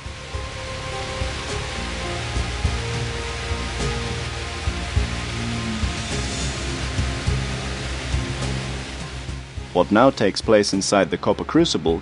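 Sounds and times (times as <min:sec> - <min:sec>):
music with low beat: 0:00.0 - 0:11.1
steady dense hiss: 0:00.0 - 0:12.0.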